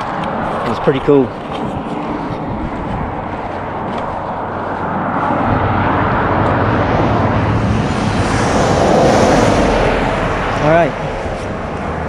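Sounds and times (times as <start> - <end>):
pickup truck passing on highway: 0.0 - 12.0.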